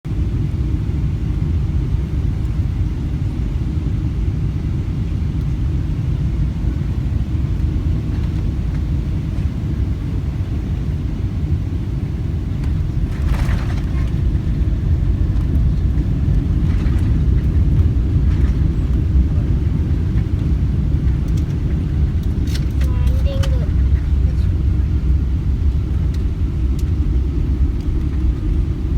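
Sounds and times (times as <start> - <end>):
airliner cabin rumble: 0.1 - 28.9.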